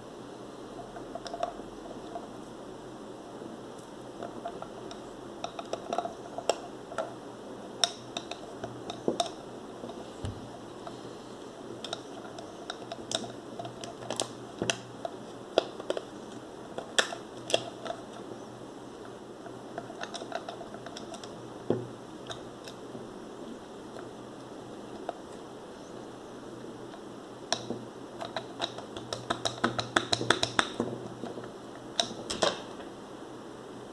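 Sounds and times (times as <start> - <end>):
steady low hiss: 0.0 - 33.9.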